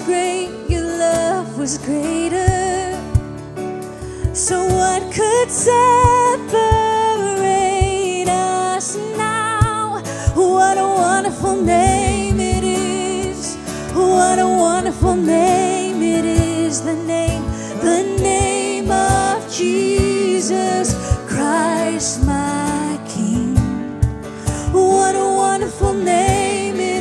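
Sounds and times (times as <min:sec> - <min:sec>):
worship band playing: 0:03.2 - 0:27.0.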